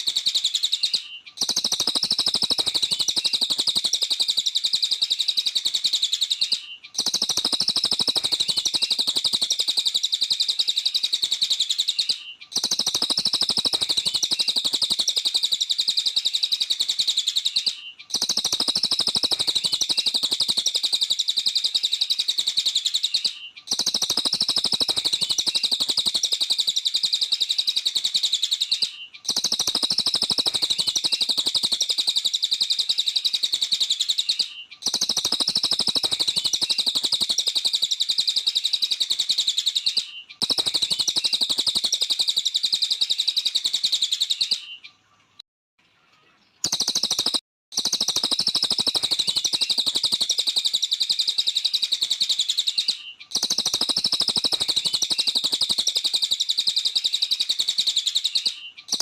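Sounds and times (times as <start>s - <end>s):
bird chattering trill: 0.0s - 44.8s, 46.6s - 59.0s.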